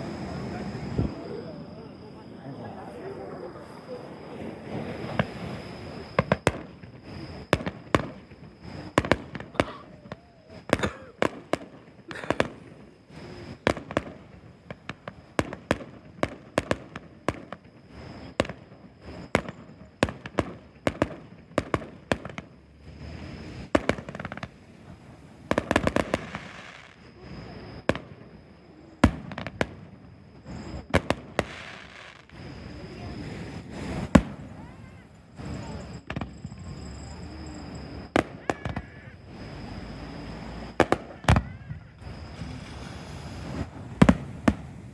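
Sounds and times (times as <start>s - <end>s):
fireworks crackling: 0.0s - 44.9s.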